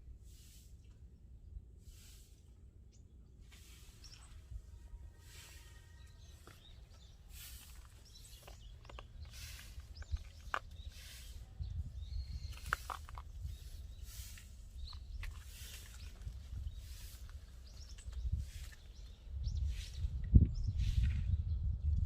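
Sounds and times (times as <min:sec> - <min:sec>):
low wind rumble: 0:00.0 - 0:22.0
bird chirps: 0:02.9 - 0:21.6.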